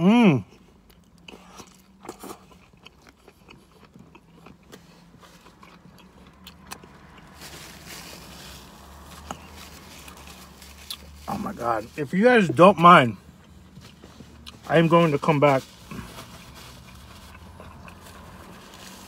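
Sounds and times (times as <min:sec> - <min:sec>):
crunchy chewing: 0:00.5 - 0:11.6, 0:13.4 - 0:19.0.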